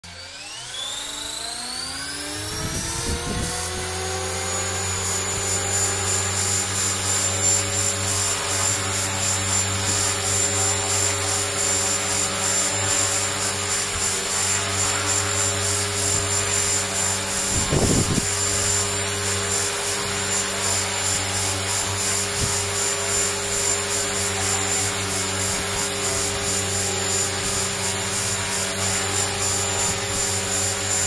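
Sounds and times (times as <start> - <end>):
rc helicopter motor whine: 0.0 - 31.0
rotor blade beat: 0.0 - 31.0.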